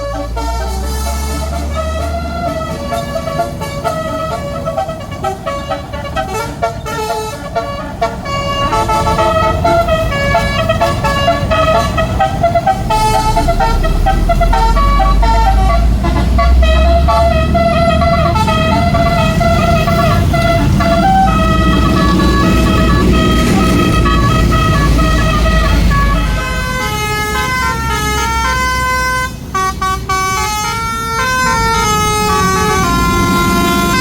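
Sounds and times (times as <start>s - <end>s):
low engine rumble: 0.0s - 34.0s
musical air horn melody: 0.0s - 34.0s.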